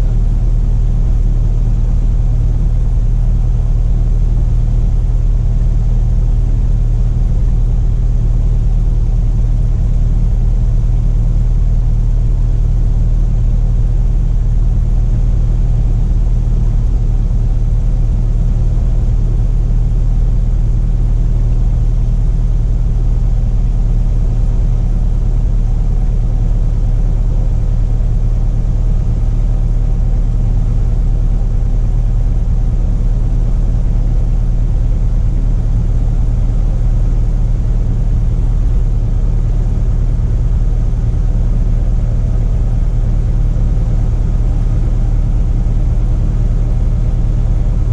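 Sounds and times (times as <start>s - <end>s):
small plane engine and propeller drone: 0.0s - 47.9s.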